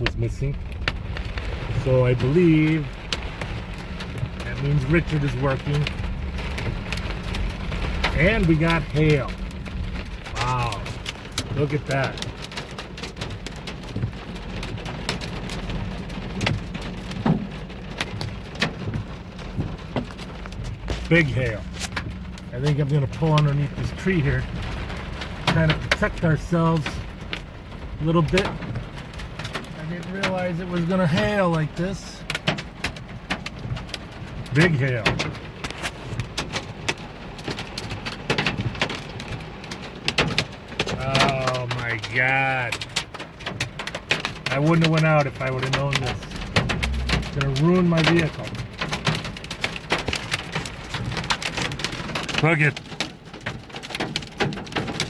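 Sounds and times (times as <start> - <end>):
hail striking vehicle body: 0.0 - 55.0
heavy rain on vehicle: 0.0 - 55.0.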